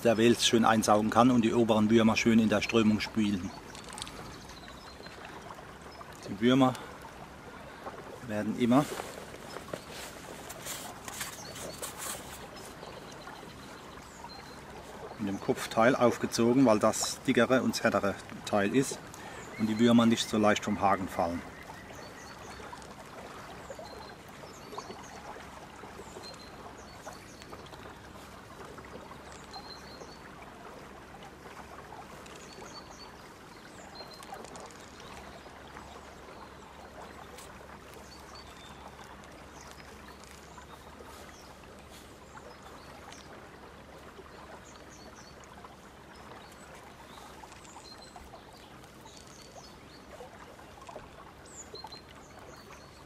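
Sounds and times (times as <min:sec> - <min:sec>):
flowing river water: 0:00.0 - 0:53.0
small birds chirping: 0:00.6 - 0:25.3, 0:32.2 - 0:43.4, 0:46.1 - 0:53.0.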